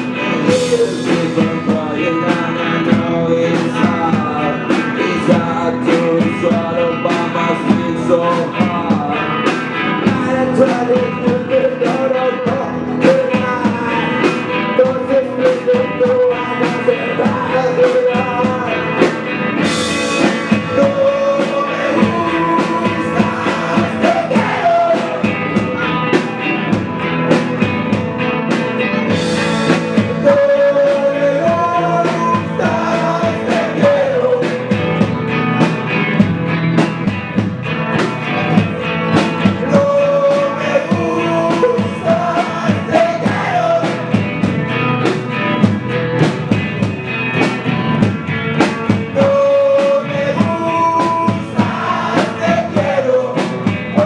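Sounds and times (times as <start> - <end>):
male lead singer: 0.0 - 54.0
rock band playing: 0.0 - 54.0.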